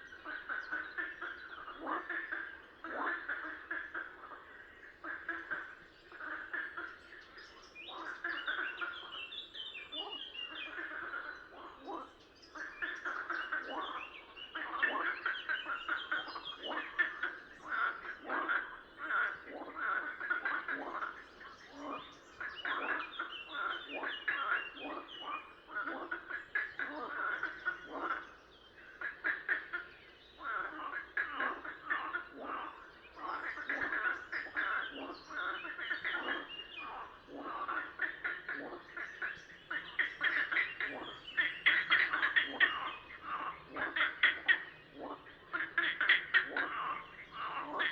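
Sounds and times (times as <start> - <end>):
frogs croaking: 0.0 - 47.9.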